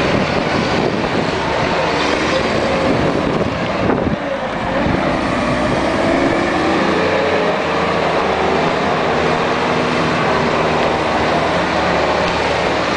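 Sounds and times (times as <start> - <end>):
wheel loader diesel engine running: 0.0 - 12.9.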